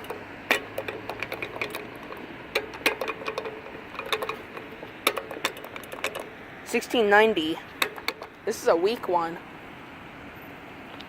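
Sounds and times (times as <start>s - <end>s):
street background noise: 0.0s - 11.0s.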